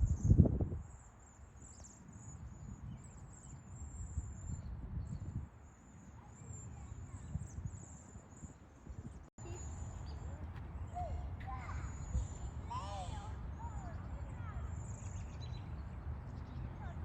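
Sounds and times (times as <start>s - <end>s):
small birds twittering: 0.0s - 17.0s.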